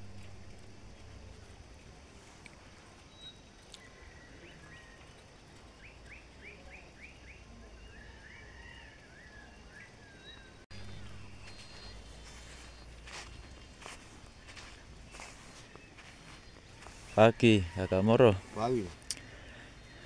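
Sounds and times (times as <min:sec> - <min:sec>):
faint bird calls: 0:03.0 - 0:20.0.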